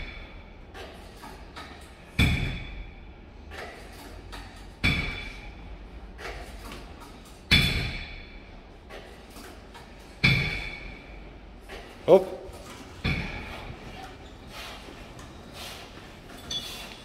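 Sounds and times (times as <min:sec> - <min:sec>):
weight stack clanking: 0:00.0 - 0:12.0, 0:12.6 - 0:17.0.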